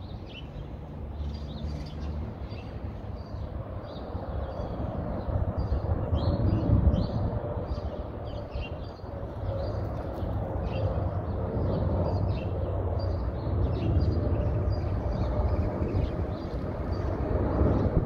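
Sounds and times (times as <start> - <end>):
jet airliner engines rumbling: 0.0 - 18.0
songbirds chirping: 0.0 - 18.0.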